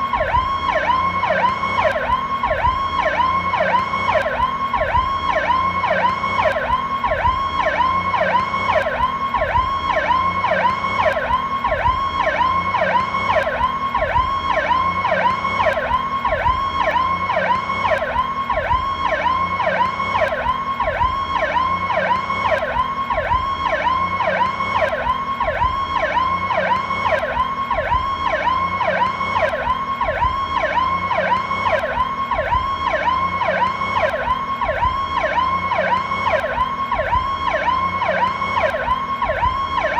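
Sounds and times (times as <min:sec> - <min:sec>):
ambulance siren yelping: 0:00.0 - 0:39.9.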